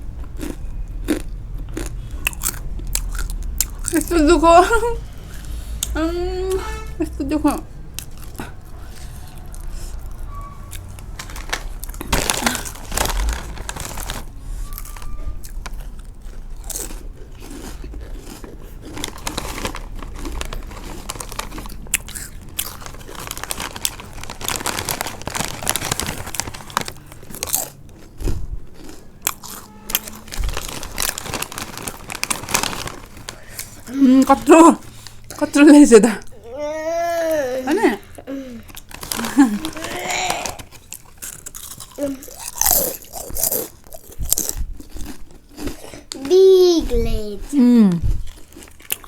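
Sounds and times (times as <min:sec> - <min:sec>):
chewing crisp snacks: 0:00.0 - 0:06.0, 0:07.9 - 0:35.6, 0:38.5 - 0:49.0.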